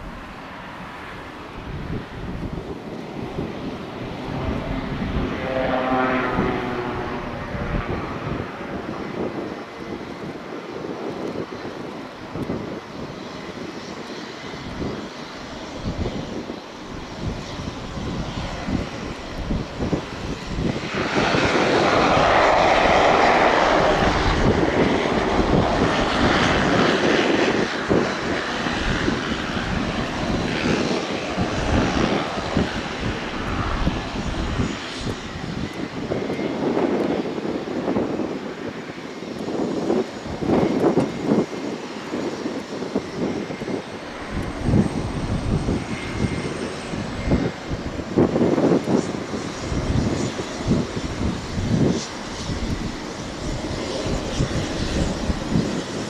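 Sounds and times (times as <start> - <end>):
turboprop plane engine: 0.0 - 56.0.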